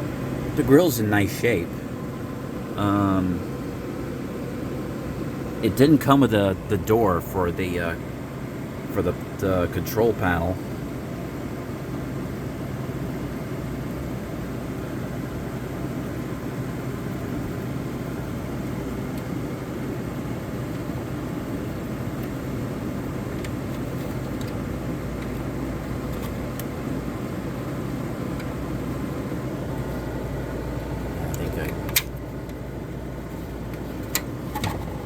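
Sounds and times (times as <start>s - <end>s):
air conditioner fan blowing: 0.0s - 35.0s
compressor humming: 0.0s - 35.0s.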